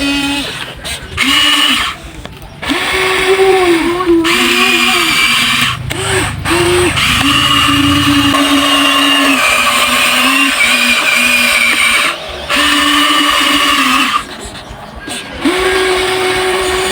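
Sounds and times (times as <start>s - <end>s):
small electric motors whining: 0.0s - 16.9s.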